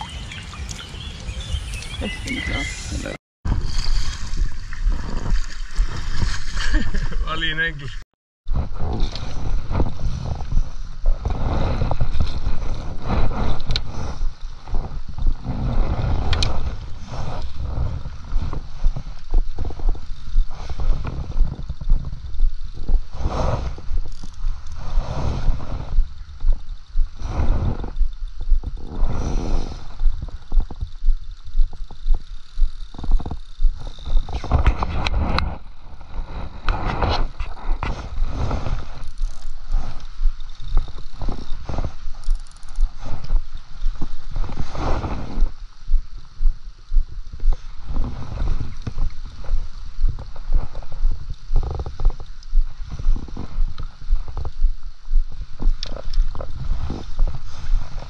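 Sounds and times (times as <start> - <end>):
wind buffeting microphone: 0.0 - 7.3, 8.5 - 58.0.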